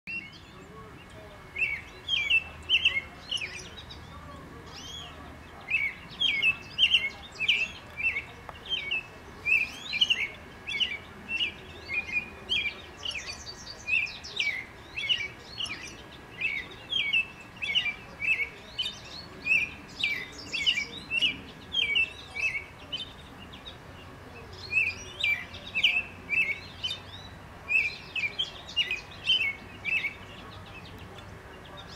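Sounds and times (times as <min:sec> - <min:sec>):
robin singing: 0:00.1 - 0:31.9.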